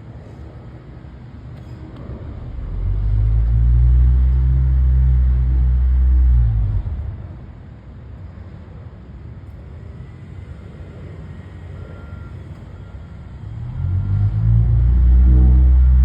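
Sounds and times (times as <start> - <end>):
heavy machinery engine rumble: 0.0 - 16.0.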